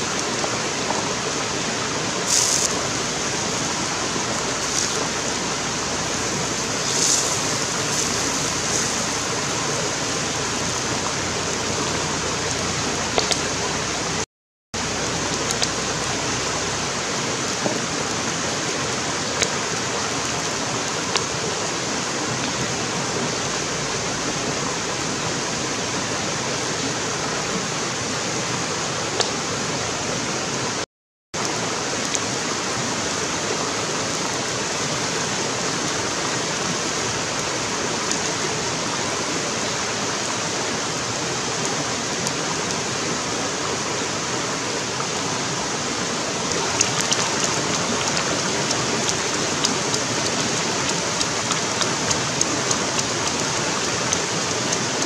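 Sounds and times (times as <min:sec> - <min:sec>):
stream rushing over rocks: 0:00.0 - 0:14.2, 0:14.8 - 0:30.8, 0:31.4 - 0:55.0.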